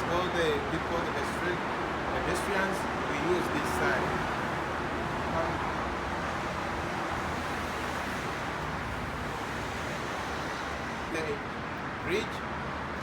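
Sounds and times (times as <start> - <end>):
highway traffic roar: 0.0 - 13.0.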